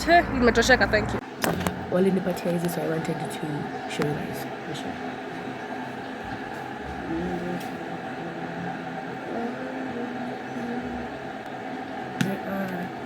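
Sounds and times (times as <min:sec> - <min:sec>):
distant voices: 0:00.0 - 0:13.0
steady background noise: 0:00.0 - 0:13.0.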